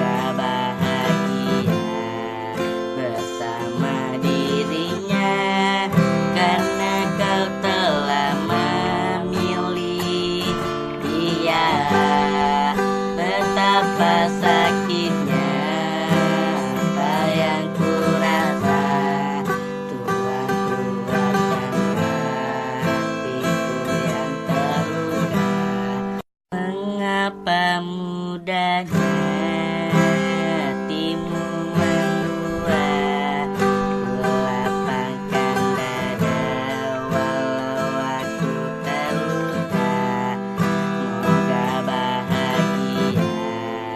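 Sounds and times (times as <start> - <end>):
person singing: 0.0 - 43.9
strummed acoustic guitar: 0.0 - 43.9.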